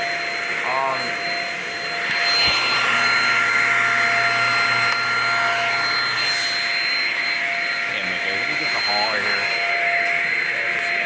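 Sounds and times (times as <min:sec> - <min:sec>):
stick vacuum running: 0:00.0 - 0:11.0.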